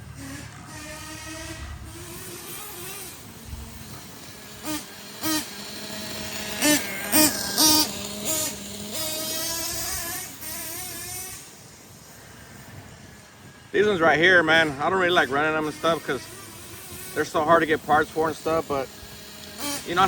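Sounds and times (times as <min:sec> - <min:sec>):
nitro engine idling and revving: 0:00.0 - 0:20.0.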